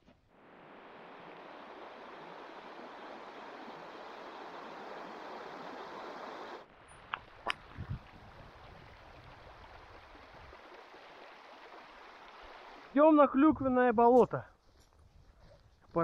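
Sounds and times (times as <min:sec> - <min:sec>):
stream water rushing: 0:00.2 - 0:13.2.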